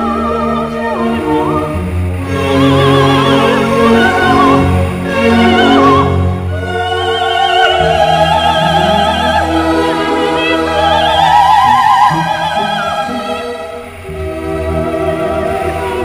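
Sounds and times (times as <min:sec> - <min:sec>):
operatic voice singing: 0:00.0 - 0:16.0.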